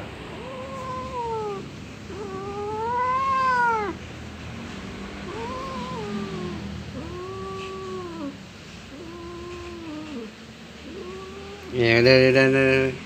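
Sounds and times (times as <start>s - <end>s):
cat meowing: 0.3s - 4.1s, 5.2s - 12.2s.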